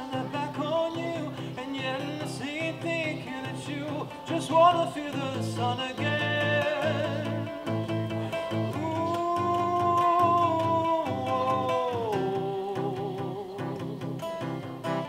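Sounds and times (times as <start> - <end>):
acoustic guitars strummed: 0.0 - 15.0.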